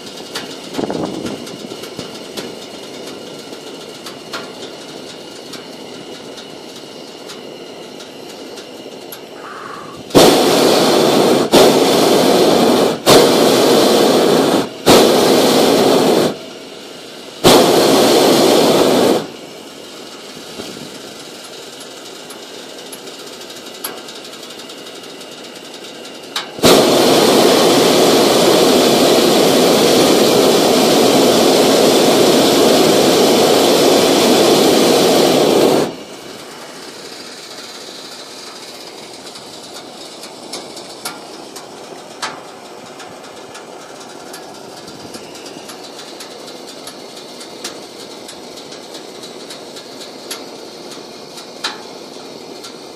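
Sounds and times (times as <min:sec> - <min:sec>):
propane burner blasts: 0:00.0 - 0:52.9.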